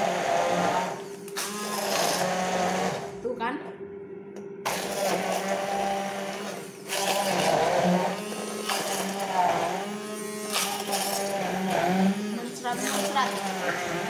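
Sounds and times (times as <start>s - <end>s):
blade churning through mixture: 0.0s - 3.2s, 4.6s - 14.0s
stick blender motor hum: 0.0s - 3.2s, 4.6s - 14.0s.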